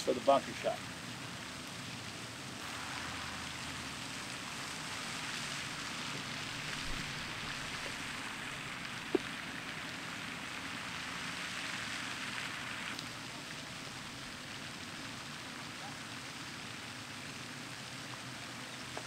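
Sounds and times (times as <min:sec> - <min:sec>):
spray fountain splashing: 0:00.0 - 0:19.0.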